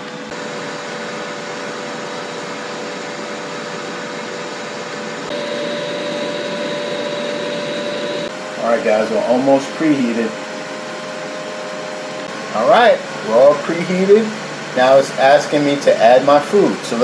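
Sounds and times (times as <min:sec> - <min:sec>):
grill fan whirring: 0:00.0 - 0:17.0.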